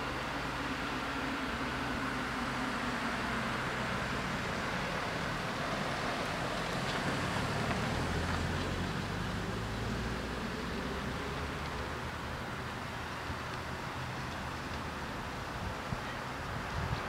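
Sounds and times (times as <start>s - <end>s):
car passing rumble: 0.0s - 17.0s
road traffic noise: 0.0s - 17.0s.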